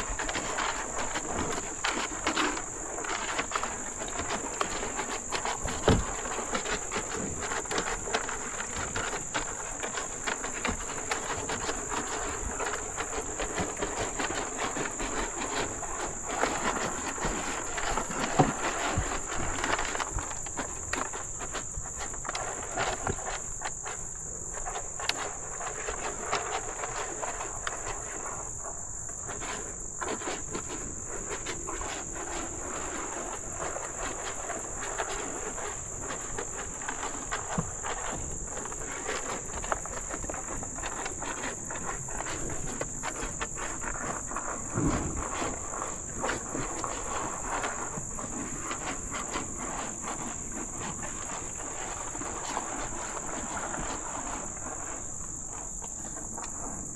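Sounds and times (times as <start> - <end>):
insect chorus: 0.0 - 56.9.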